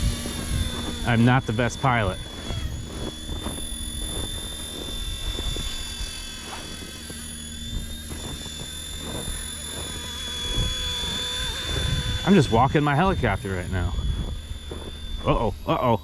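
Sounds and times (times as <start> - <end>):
toy helicopter motor whining: 0.0 - 16.0.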